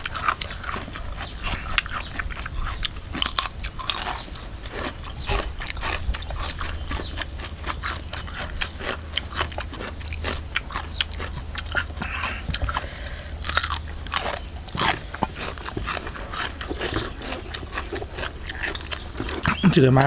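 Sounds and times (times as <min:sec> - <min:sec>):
low hum: 0:00.0 - 0:20.0
person chewing crunchy food: 0:00.0 - 0:20.0.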